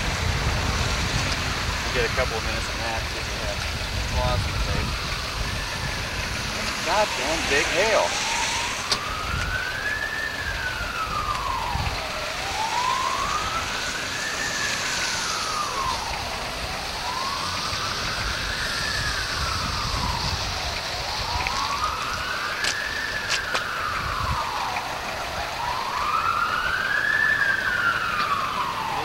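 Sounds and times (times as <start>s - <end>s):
siren wailing: 0.0s - 29.0s.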